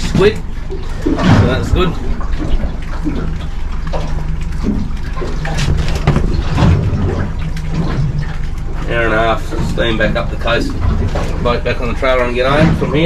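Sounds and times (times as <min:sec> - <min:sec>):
steady low hum: 0:00.0 - 0:13.0
water sloshing around boat: 0:00.0 - 0:13.0.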